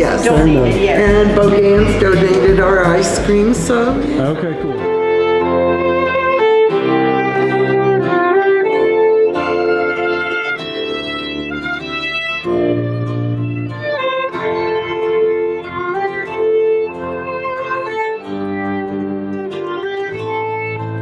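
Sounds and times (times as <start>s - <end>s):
acoustic guitar: 0.0s - 21.0s
fiddle: 0.0s - 21.0s.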